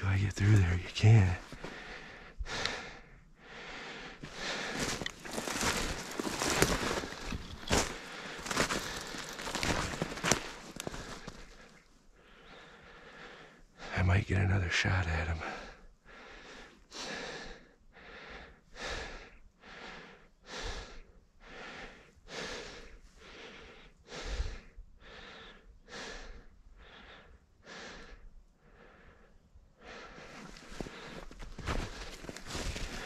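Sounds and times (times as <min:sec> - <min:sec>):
man breathing hard: 0:00.4 - 0:14.0, 0:15.4 - 0:33.0.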